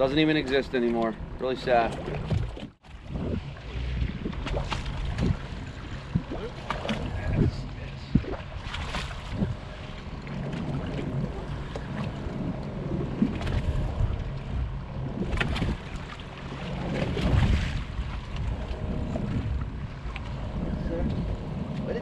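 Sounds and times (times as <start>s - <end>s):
water lapping against boat hull: 0.0s - 22.0s
wind buffeting microphone: 0.0s - 22.0s.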